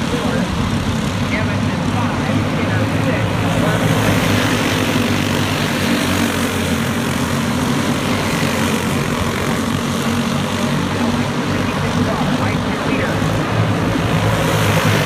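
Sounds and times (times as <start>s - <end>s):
go-kart engines racing: 0.0s - 15.0s.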